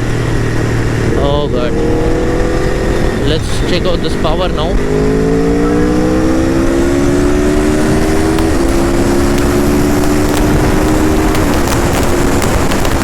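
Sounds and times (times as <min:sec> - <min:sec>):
heavy wind rush: 0:00.0 - 0:13.0
motorcycle engine accelerating hard: 0:00.0 - 0:13.0.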